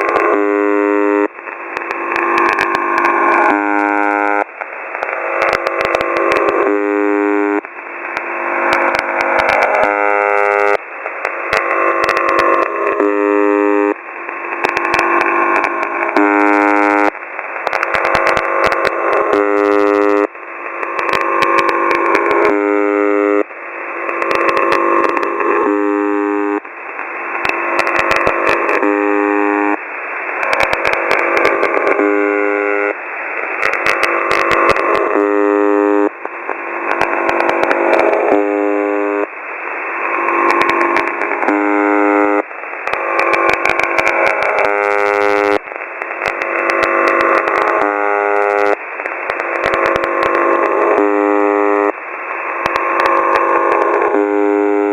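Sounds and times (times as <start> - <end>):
harsh radio buzz: 0.0 - 54.9
radio static hiss and crackles: 0.0 - 54.9.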